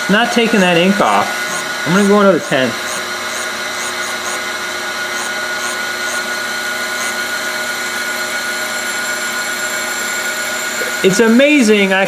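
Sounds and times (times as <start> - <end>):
grinder whine: 0.0 - 12.0.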